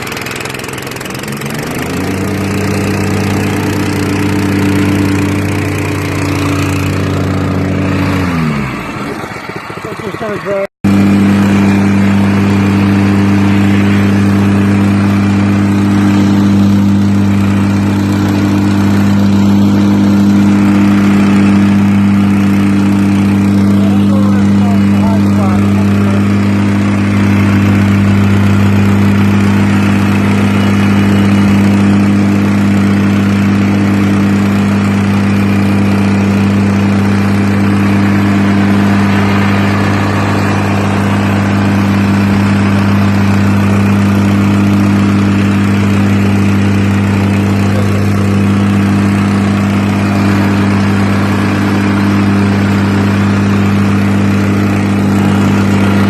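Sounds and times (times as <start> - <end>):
plate compactor engine drone: 0.0 - 56.0.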